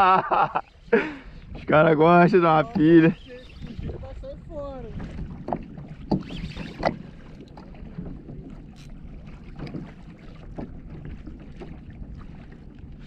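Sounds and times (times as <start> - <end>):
water lapping against hull: 0.0 - 13.0
wind buffeting microphone: 0.9 - 13.0.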